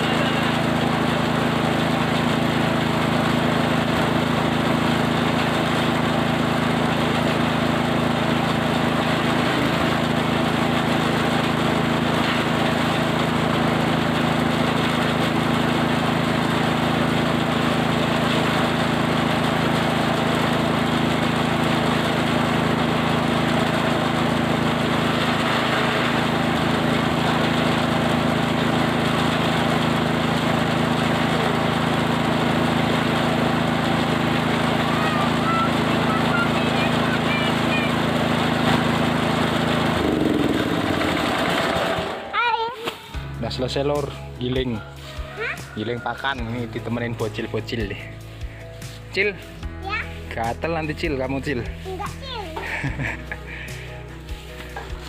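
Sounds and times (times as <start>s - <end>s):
forage chopper machine running: 0.0s - 55.0s.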